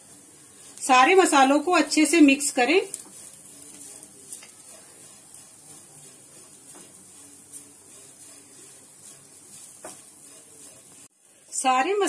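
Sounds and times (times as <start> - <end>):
vegetables sizzling in a pan: 0.0 - 12.0
wooden spatula scraping: 0.0 - 12.0.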